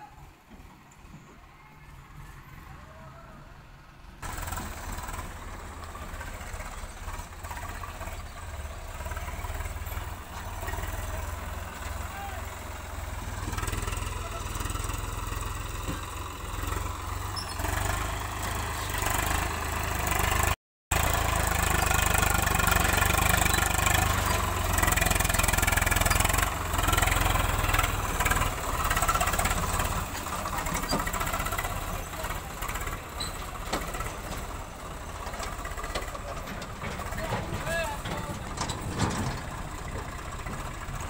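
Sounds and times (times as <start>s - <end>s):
backhoe loader working: 0.0s - 41.0s
tractor diesel engines running: 0.0s - 41.0s.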